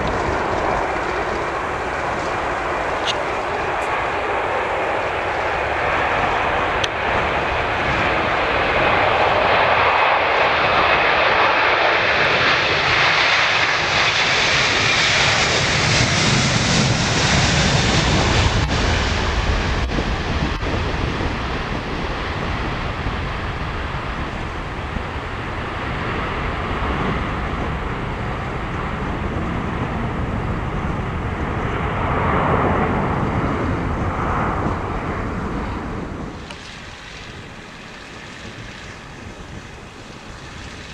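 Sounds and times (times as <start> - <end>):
jet plane taking off: 0.0 - 40.9.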